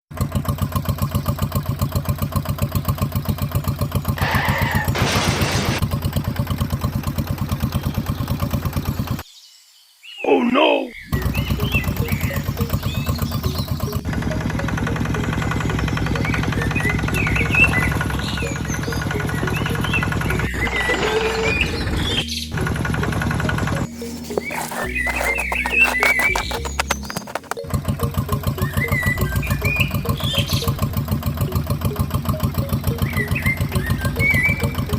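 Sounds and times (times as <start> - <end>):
small tractor engine chugging: 0.1 - 9.2, 11.1 - 34.9.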